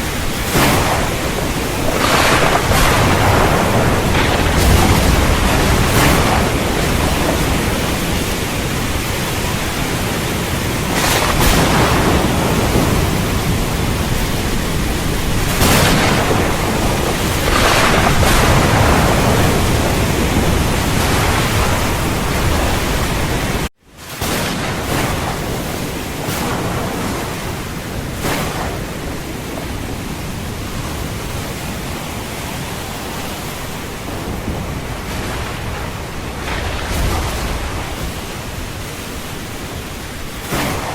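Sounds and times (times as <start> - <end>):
rumbling thunder: 0.0 - 31.9, 33.6 - 40.9
heavy rain: 0.0 - 40.9.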